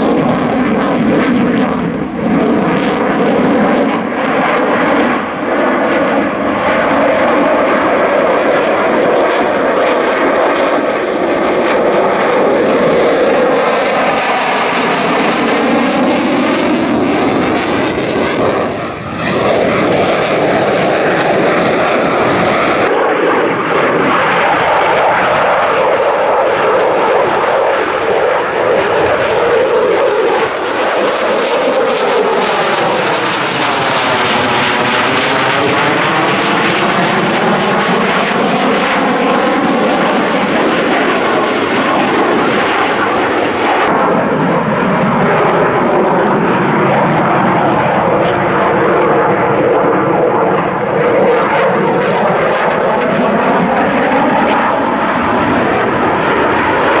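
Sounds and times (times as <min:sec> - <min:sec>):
loud jet noise: 0:00.0 - 0:57.0.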